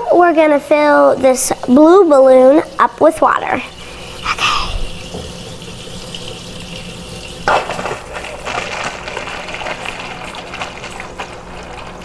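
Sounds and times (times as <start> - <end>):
faucet water filling a balloon: 1.1 - 12.0.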